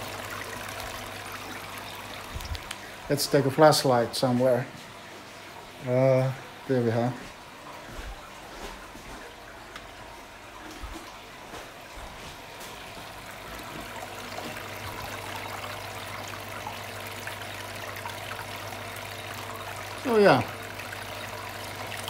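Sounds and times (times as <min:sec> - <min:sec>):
low steady pump hum: 0:00.0 - 0:22.0
water trickling and splashing: 0:00.0 - 0:22.0.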